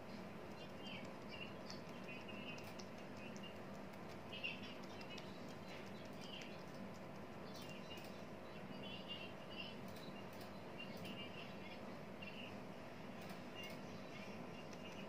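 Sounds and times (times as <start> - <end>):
faint birds chirping: 0.0 - 15.0
steady low hum: 0.0 - 15.0.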